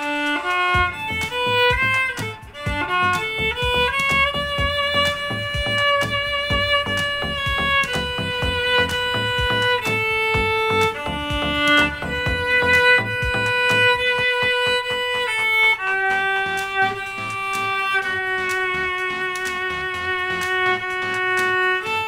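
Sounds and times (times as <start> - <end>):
bowed viola melody: 0.0 - 22.0.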